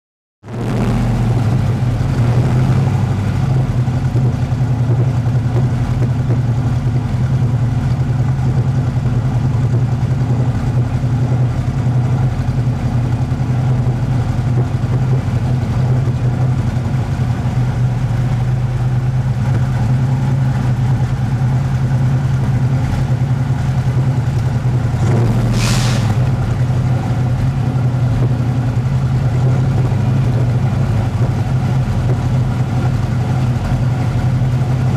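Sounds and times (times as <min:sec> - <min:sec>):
car engine idling: 0:00.5 - 0:34.9.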